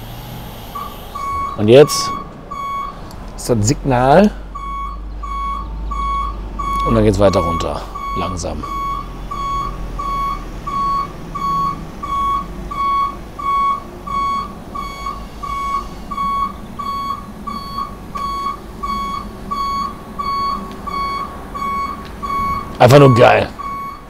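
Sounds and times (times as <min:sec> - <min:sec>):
low hum: 0:00.0 - 0:22.8
high alarm beeps: 0:00.8 - 0:03.0, 0:04.6 - 0:24.0.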